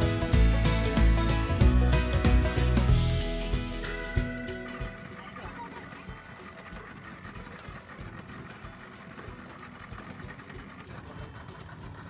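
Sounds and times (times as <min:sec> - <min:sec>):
engine running with low chatter: 0:00.0 - 0:12.0.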